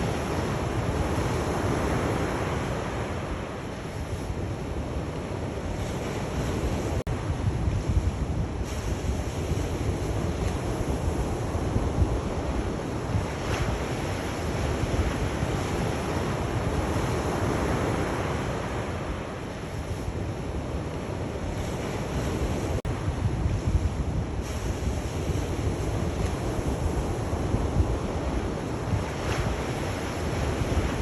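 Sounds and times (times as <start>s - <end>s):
sea waves washing in: 0.0s - 31.0s
wind rumble: 0.0s - 31.0s.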